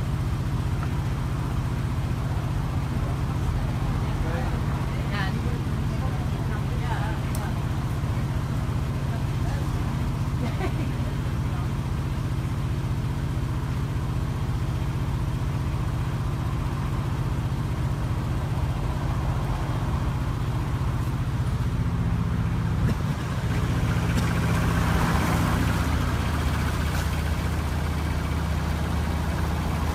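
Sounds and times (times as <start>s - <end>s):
crane engine idling: 0.0s - 29.9s.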